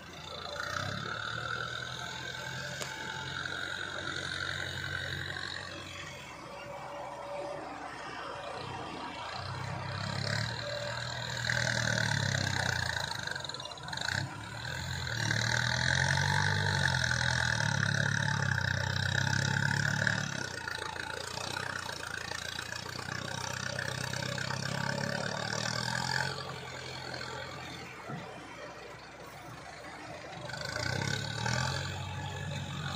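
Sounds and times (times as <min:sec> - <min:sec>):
excavator diesel engine working: 0:00.0 - 0:32.9.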